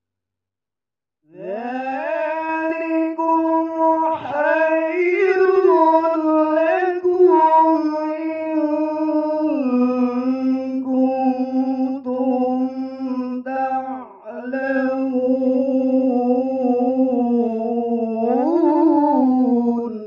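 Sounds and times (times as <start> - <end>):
man reciting melodically: 1.3 - 20.0.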